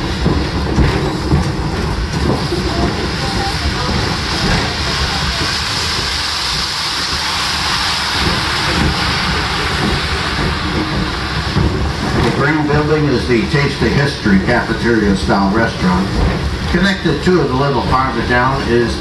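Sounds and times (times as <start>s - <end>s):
hissing noise: 0.0s - 19.0s
rail car rumbling and rattling: 0.0s - 19.0s.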